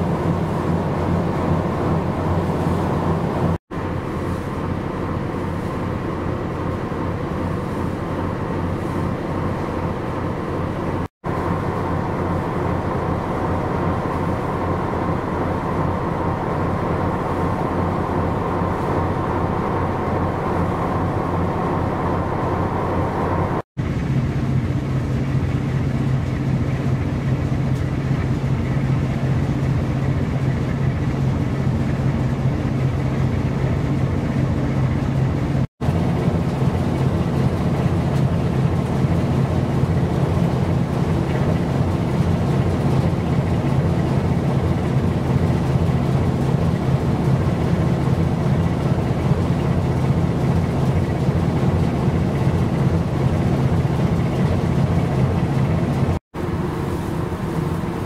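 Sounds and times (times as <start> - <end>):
ship diesel engine drone: 0.0 - 58.0.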